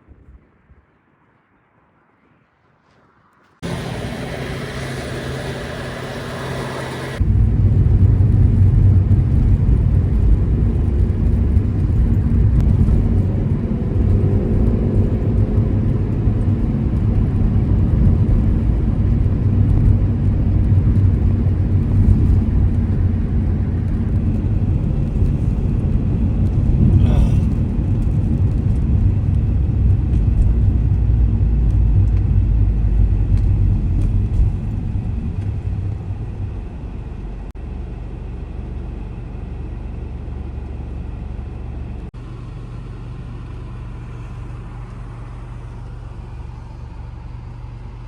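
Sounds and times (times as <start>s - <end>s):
car engine: 2.8s - 48.0s
road noise inside car: 2.8s - 48.0s.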